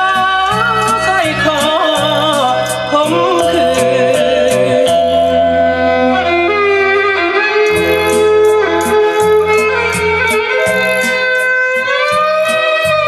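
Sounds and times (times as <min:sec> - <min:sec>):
lead melody with slides: 0:00.0 - 0:13.0
stepping bass line: 0:00.0 - 0:13.0.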